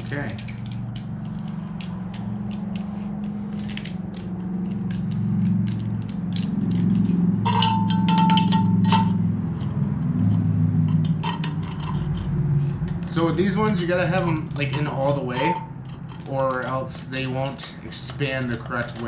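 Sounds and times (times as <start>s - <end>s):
ratchet wrench clicks: 0.0s - 19.0s.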